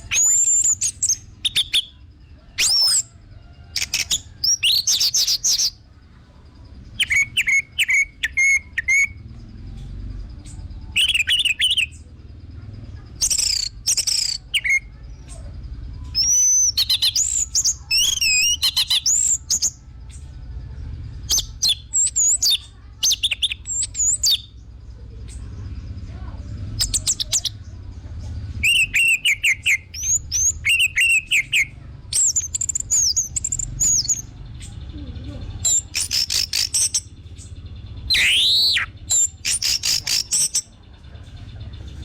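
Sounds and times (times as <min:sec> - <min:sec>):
thrush singing whistles and trills: 0:00.0 - 0:05.9, 0:06.7 - 0:09.4, 0:10.5 - 0:12.3, 0:13.1 - 0:20.6, 0:21.2 - 0:25.5, 0:26.6 - 0:27.8, 0:28.5 - 0:35.0, 0:35.6 - 0:42.0.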